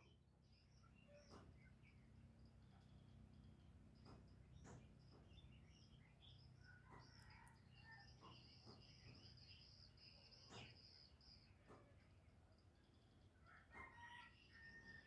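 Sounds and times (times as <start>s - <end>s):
low background hum: 0.0s - 13.9s
small birds chirping: 0.0s - 15.0s.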